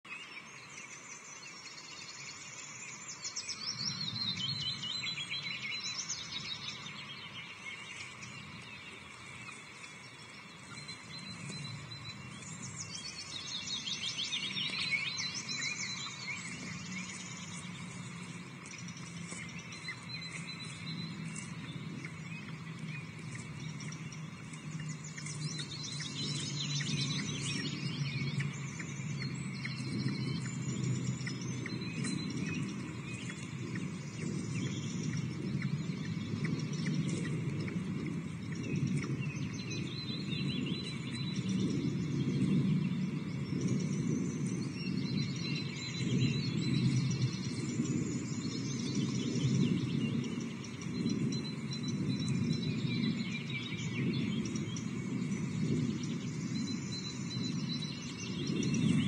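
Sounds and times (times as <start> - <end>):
birds chirping and trilling: 0.0 - 59.0
low steady rumble: 0.4 - 59.0.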